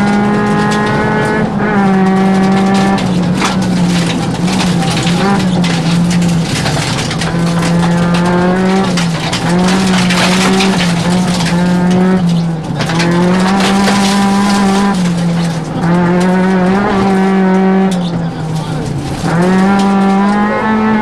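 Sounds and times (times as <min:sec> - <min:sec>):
gravel rattling against car: 0:00.0 - 0:21.0
rally car engine revving: 0:00.0 - 0:21.0.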